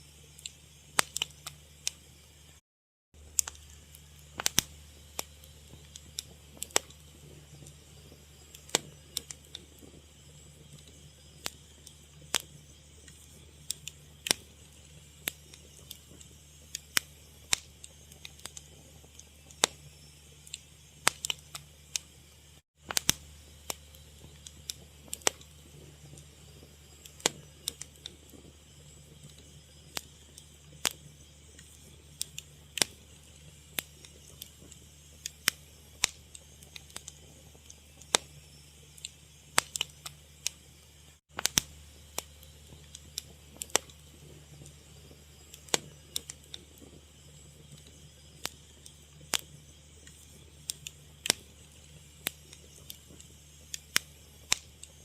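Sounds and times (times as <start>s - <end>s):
fire crackling and popping: 0.1s - 2.6s, 3.2s - 55.0s
low steady hum: 3.2s - 55.0s.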